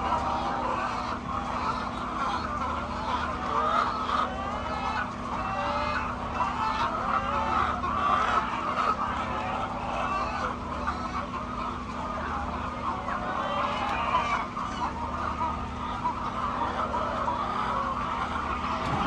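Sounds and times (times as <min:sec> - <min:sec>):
hens clucking: 0:00.0 - 0:19.0
steady low hum: 0:00.0 - 0:19.0.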